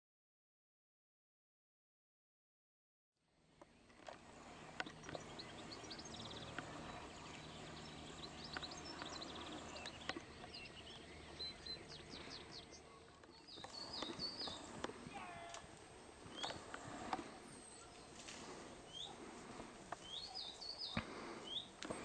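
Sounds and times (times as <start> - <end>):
faint steady background noise: 3.2 - 22.0
wild birds chirping: 3.3 - 22.0.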